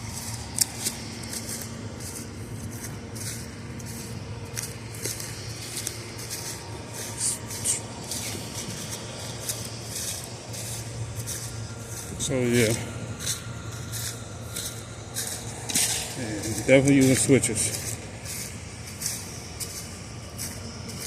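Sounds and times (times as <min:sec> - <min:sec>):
footsteps crunching over brush: 0:00.0 - 0:21.0
steady low hum: 0:00.0 - 0:21.0.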